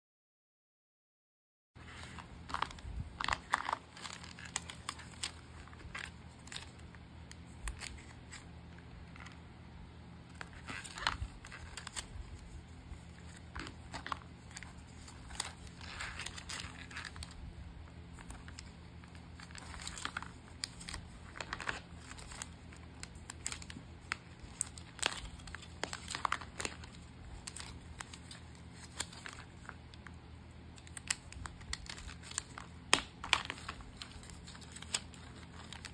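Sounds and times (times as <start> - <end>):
packaging crinkling and rustling: 1.8 - 9.4, 10.3 - 35.9
faint low hum: 1.8 - 35.9.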